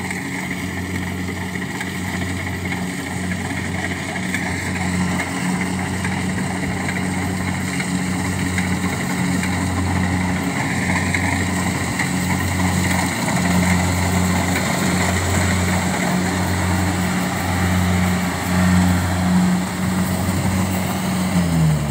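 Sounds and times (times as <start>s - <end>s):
diesel engine running: 0.0s - 21.9s
threshing machinery whir and rattle: 0.0s - 21.9s.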